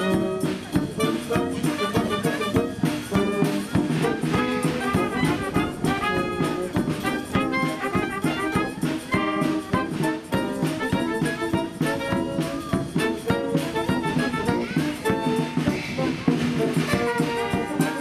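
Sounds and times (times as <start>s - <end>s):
brass jazzy dance music: 0.0s - 18.0s.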